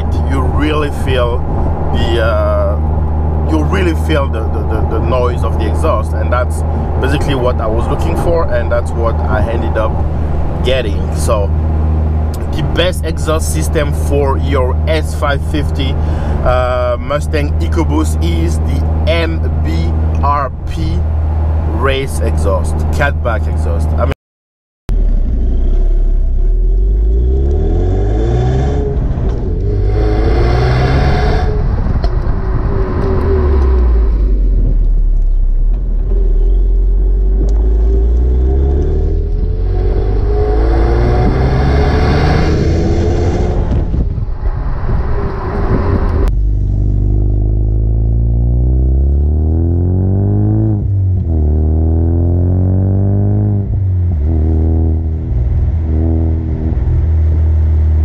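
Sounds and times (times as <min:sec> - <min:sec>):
car exhaust accelerating: 0:00.0 - 0:24.1, 0:24.9 - 0:58.0.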